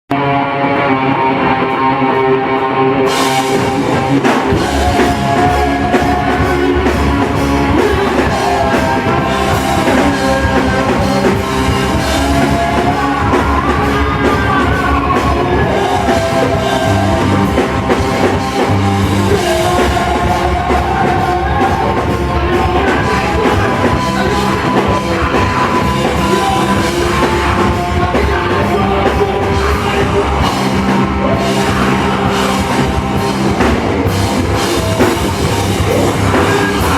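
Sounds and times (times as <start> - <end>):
person singing: 0.1 - 36.9
rock band playing: 0.1 - 36.9.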